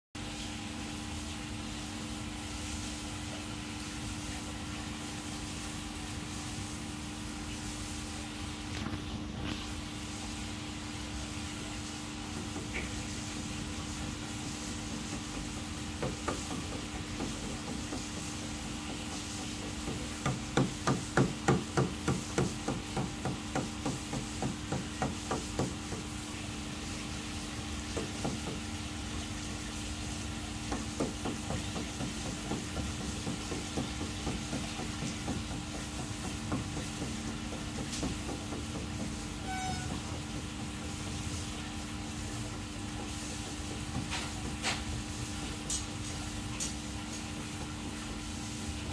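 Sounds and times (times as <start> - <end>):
aquarium air pump humming: 0.2 - 48.9.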